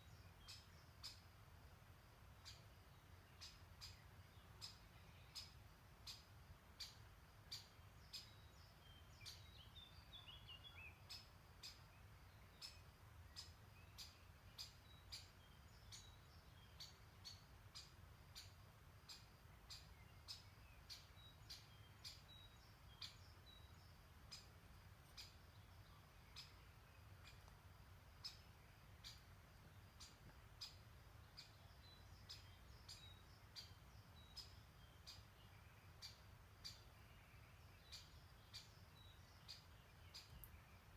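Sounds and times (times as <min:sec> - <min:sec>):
faint songbirds chirping: 0:00.0 - 0:40.9.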